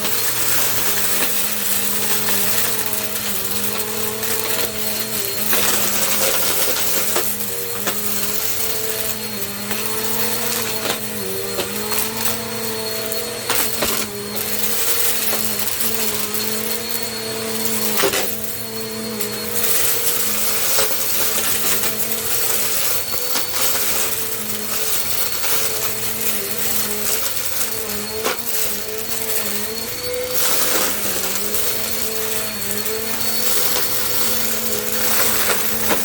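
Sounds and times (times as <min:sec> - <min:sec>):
clicks and rattles: 0:00.0 - 0:36.0
vacuum cleaner running: 0:00.0 - 0:36.0.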